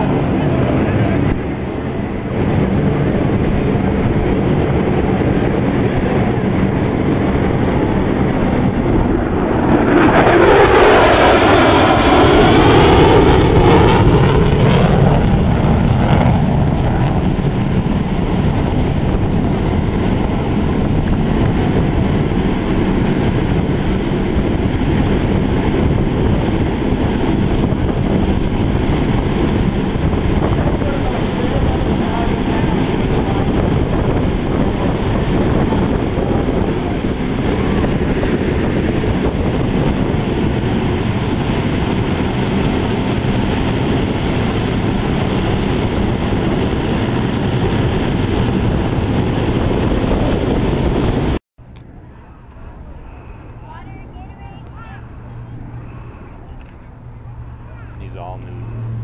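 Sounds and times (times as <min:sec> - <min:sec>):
jet engine roar: 0:00.0 - 0:59.0.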